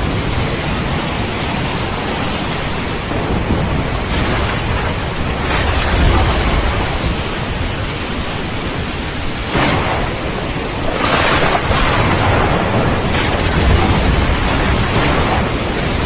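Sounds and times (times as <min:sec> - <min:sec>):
heavy rain: 0:00.0 - 0:16.0
low thunder rumbling: 0:00.0 - 0:16.0.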